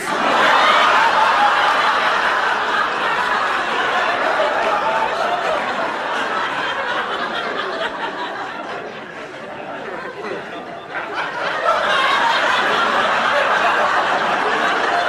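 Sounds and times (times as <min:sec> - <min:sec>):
audience laughing: 0:00.0 - 0:15.0.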